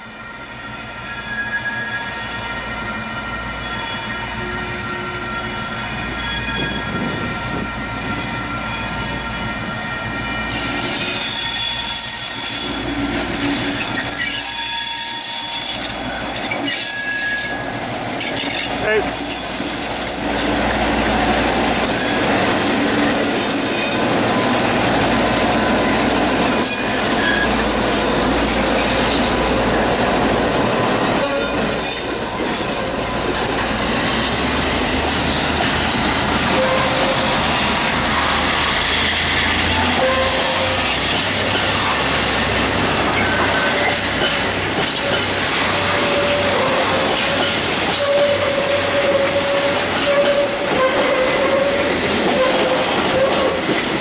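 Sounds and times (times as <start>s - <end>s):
diesel locomotives passing: 0.0s - 54.0s
train wheels on rails: 0.0s - 54.0s.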